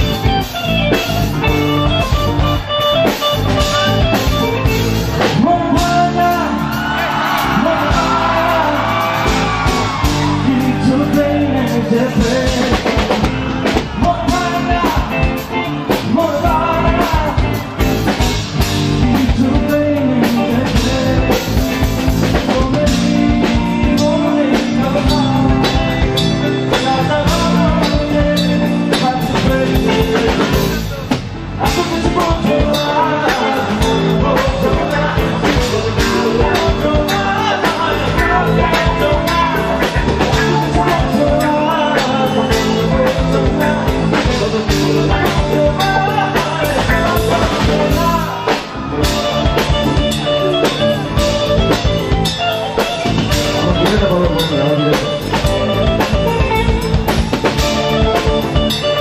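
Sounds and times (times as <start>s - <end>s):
drum kit: 0.0s - 59.0s
person singing: 0.0s - 59.0s
strummed guitars: 0.0s - 59.0s.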